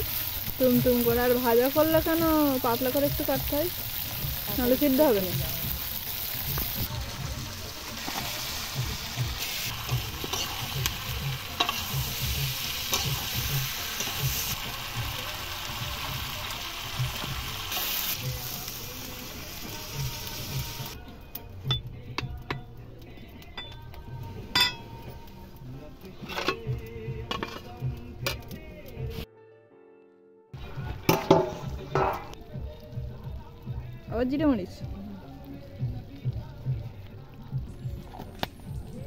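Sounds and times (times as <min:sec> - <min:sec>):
food sizzling in oil: 0:00.0 - 0:29.3, 0:30.6 - 0:39.0.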